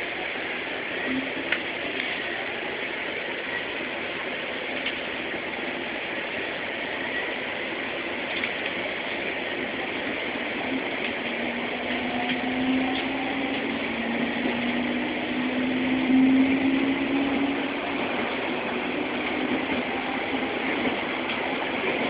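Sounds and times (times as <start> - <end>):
train rumble from inside: 0.0 - 22.0.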